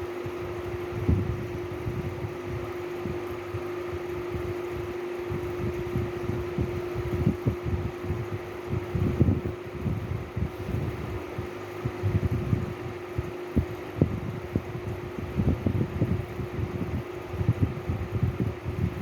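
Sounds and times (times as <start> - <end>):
fan whirring: 0.0 - 19.0.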